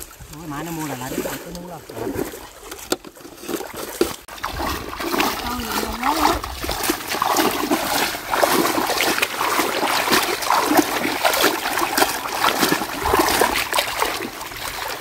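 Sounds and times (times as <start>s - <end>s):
net splashing through water: 0.0s - 15.0s.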